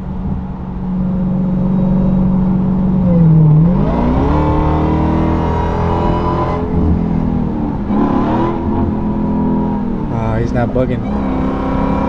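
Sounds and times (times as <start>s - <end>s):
car engine accelerating hard: 0.0s - 12.0s
supercharger whine: 0.0s - 12.0s.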